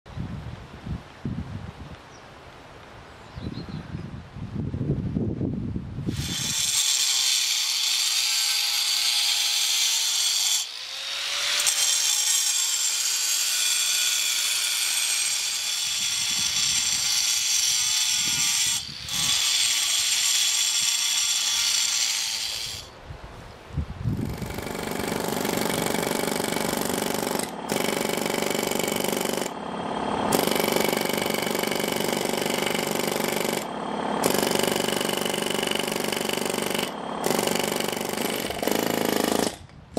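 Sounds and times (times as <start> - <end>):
angle grinder cutting stone: 6.1 - 22.9, 24.2 - 39.6
pneumatic chisel hammering stone: 6.1 - 22.9, 24.2 - 39.8.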